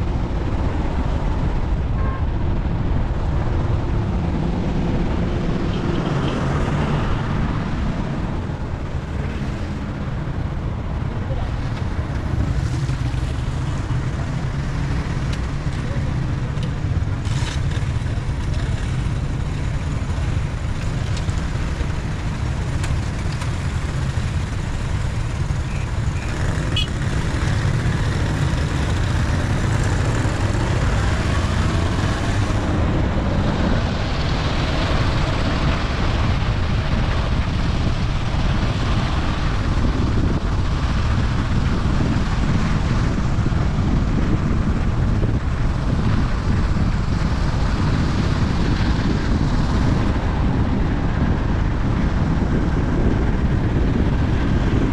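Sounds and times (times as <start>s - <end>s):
car driving along road: 0.0s - 54.9s.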